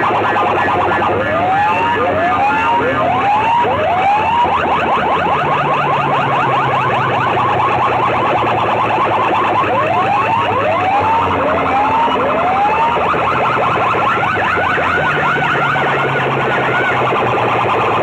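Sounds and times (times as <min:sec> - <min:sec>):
rapid rising siren chirps: 0:00.0 - 0:18.0
slow rising siren whoops: 0:00.0 - 0:18.0.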